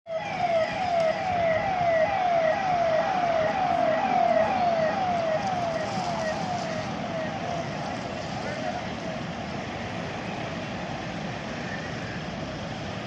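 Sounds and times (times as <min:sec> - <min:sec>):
vehicle siren sweeping: 0:00.1 - 0:13.0.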